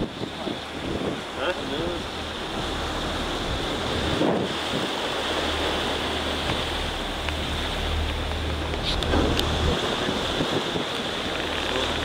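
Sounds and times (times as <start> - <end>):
steady low rumble: 0.0 - 12.0
waves breaking: 0.0 - 12.0
wind buffeting microphone: 0.0 - 12.0.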